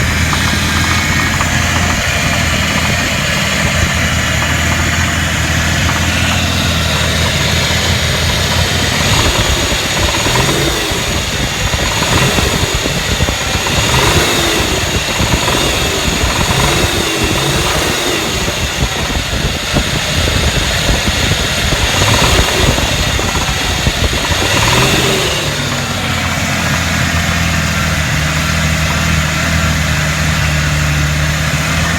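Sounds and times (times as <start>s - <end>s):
engine idling and revving: 0.0s - 31.9s.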